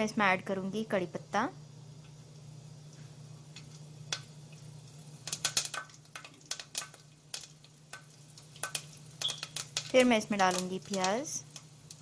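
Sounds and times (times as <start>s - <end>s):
spices spluttering in hot oil: 0.0s - 12.0s
steady low hum: 0.0s - 12.0s.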